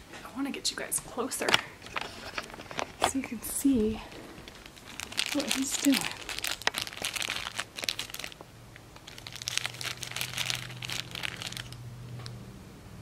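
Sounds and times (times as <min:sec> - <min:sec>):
plastic wrapping crinkling: 0:01.4 - 0:12.3.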